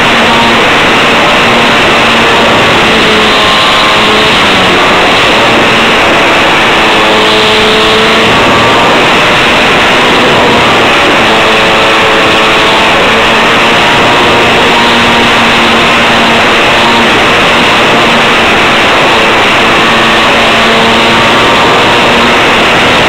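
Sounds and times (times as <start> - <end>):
airflow rushing on microphone: 0.0 - 23.0
model plane motor whine: 0.0 - 23.0.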